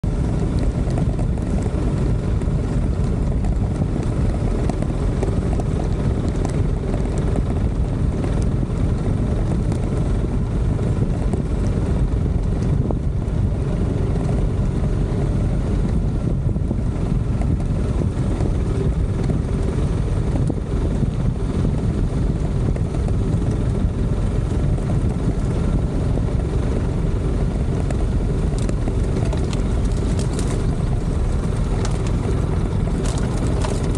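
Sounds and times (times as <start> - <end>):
motorcycle engine running: 0.0 - 33.9
wind rushing over microphone: 0.0 - 33.9.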